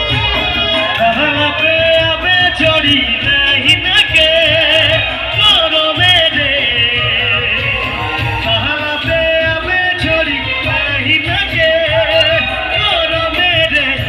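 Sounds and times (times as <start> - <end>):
person singing over a band: 0.0 - 14.0
steady drum beat: 0.0 - 14.0.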